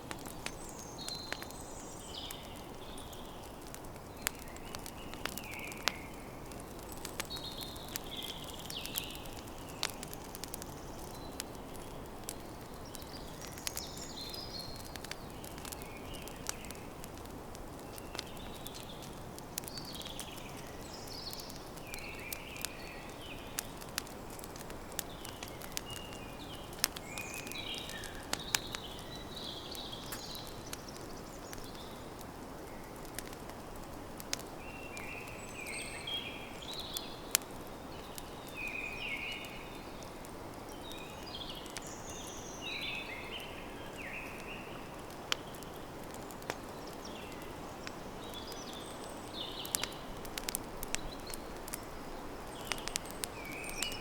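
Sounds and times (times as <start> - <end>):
campfire crackling and popping: 0.0 - 54.0
birds chirping: 0.1 - 17.0, 17.8 - 32.1, 34.3 - 54.0.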